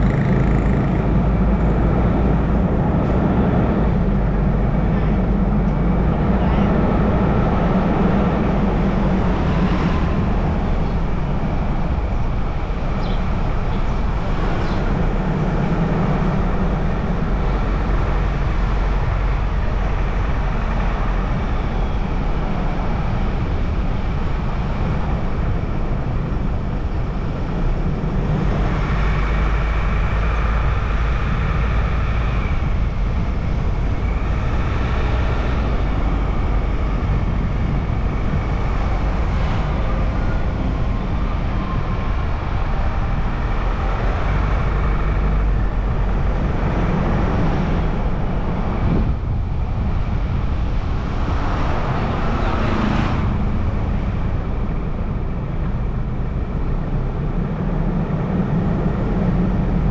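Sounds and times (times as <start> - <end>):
car road noise: 0.0 - 59.9.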